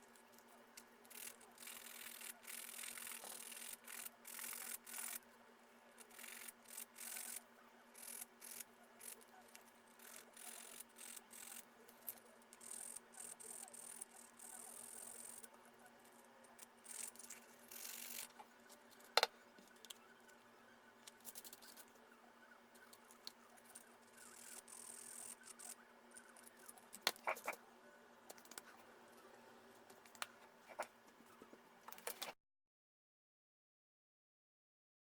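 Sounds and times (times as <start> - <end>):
faint steady hum: 0.0 - 32.4.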